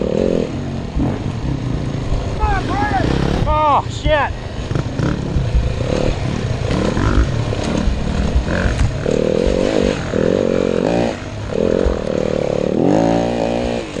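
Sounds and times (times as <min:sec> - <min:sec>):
dirt bike engine revving: 0:00.0 - 0:14.0
wind rumble: 0:00.0 - 0:14.0
bike bouncing: 0:00.9 - 0:14.0.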